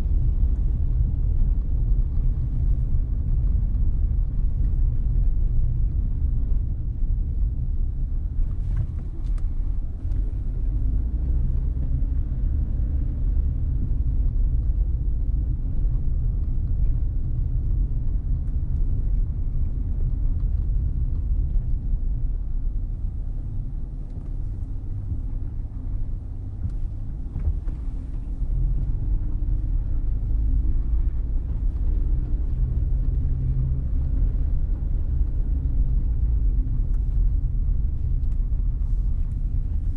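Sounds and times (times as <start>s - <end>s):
car driving slowly: 0.0s - 39.9s.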